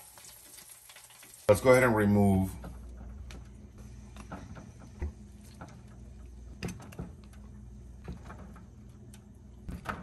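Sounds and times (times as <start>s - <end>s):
steady low hum: 1.8s - 10.0s.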